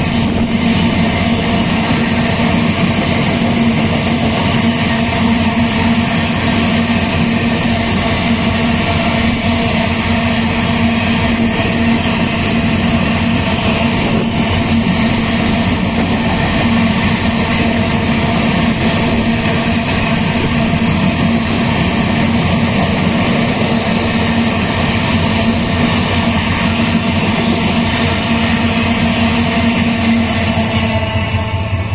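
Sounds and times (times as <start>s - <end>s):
diesel locomotive engine drone: 0.0s - 31.9s
train rumble: 0.0s - 31.9s.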